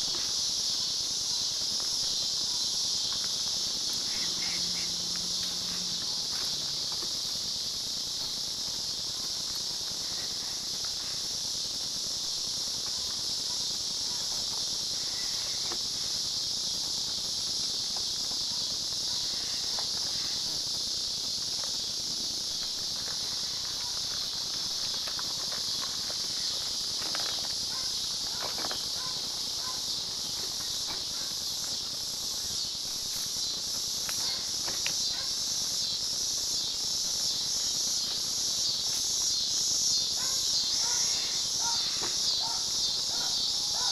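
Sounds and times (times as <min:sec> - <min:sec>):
insect chorus buzzing: 0:00.0 - 0:43.9.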